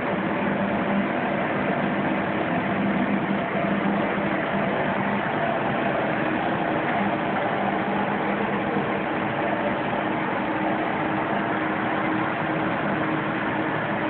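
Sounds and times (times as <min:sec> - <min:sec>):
machine drone with low hum: 0:00.0 - 0:14.0.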